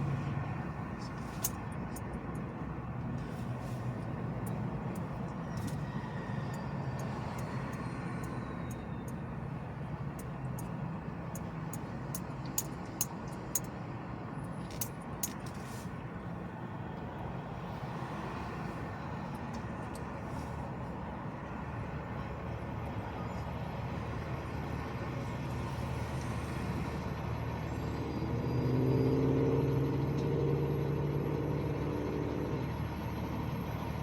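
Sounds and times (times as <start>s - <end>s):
car driving in traffic: 0.0s - 34.0s.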